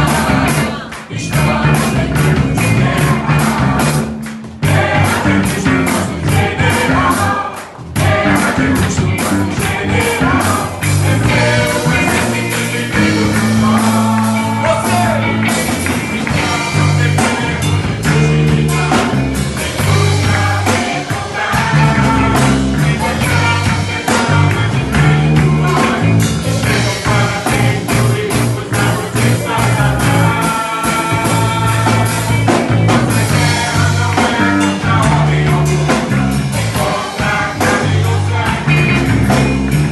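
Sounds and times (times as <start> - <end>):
band playing a song: 0.0 - 39.9
drum beat: 0.0 - 39.9.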